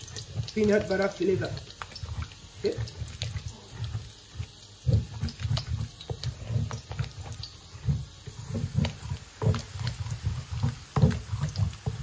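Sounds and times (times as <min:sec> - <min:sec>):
wooden pestle pounding stew: 0:00.0 - 0:12.0.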